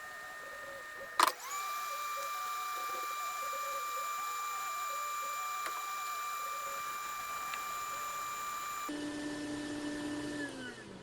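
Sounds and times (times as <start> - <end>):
small electric motor whining: 0.0 - 9.0.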